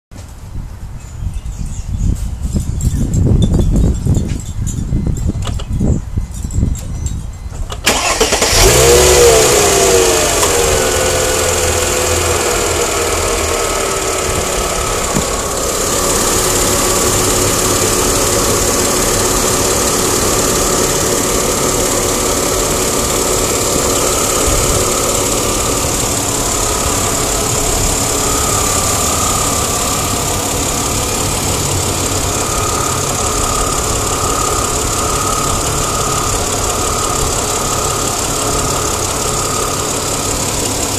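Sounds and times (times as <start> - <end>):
car engine starting and idling: 7.7 - 40.9
engine ticking: 7.7 - 40.9.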